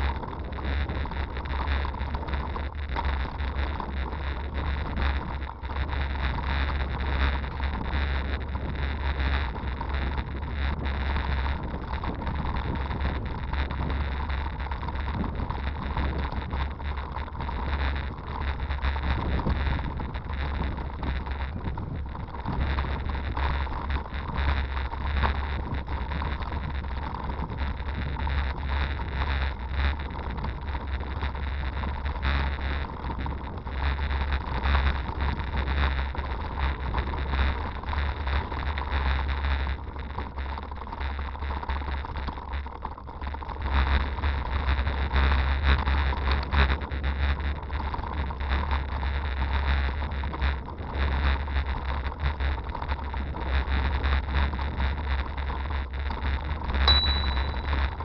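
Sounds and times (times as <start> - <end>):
bicycle rattling over bumps: 0.0 - 58.0
faint steady whine: 0.0 - 58.0
wind rumbling on microphone: 0.0 - 58.0.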